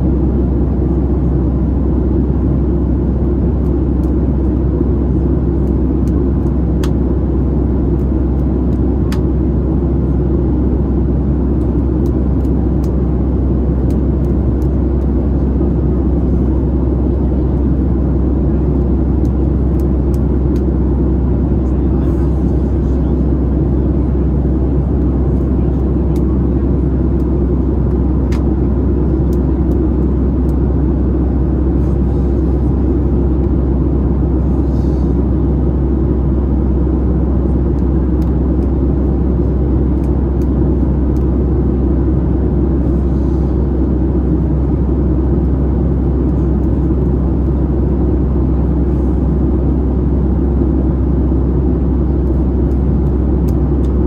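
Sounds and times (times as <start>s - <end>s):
airplane engine rumble: 0.0s - 54.0s.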